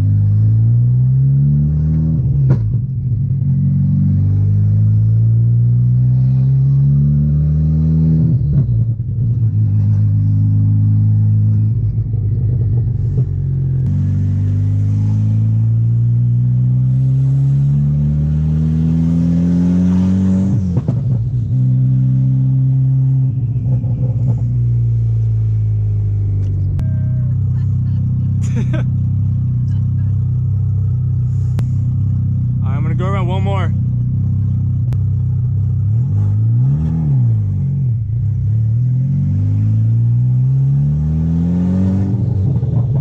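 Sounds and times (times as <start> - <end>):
car engine accelerating: 0.0 - 43.0.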